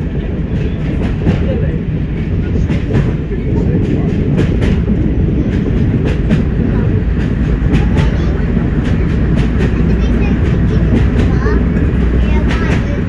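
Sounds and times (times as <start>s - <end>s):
train engine rumble: 0.0s - 13.0s
wheels clicking on track: 0.0s - 13.0s.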